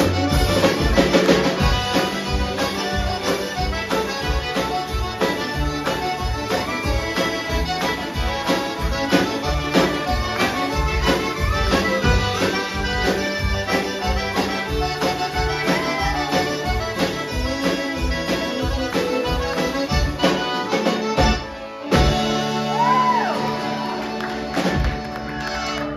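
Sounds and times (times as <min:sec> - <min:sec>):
button accordion: 0:00.0 - 0:22.7, 0:23.4 - 0:25.9
live country band playing: 0:00.0 - 0:25.9.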